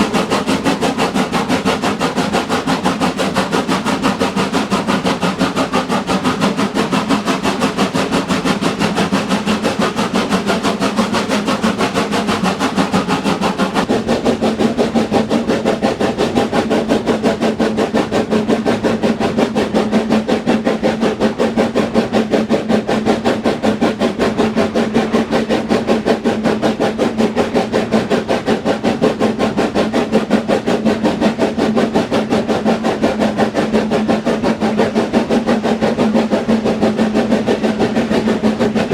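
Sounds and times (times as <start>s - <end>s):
train clattering: 0.0s - 38.9s
train hum: 0.0s - 38.9s.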